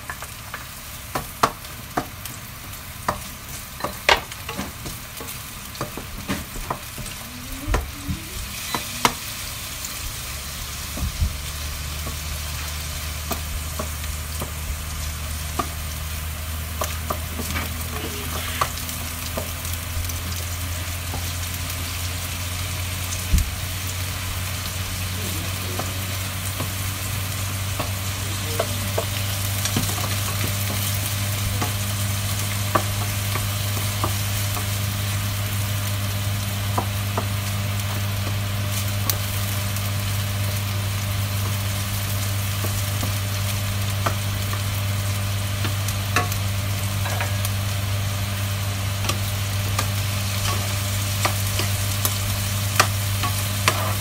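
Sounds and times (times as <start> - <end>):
chicken sizzling in frying pan: 0.0 - 54.0.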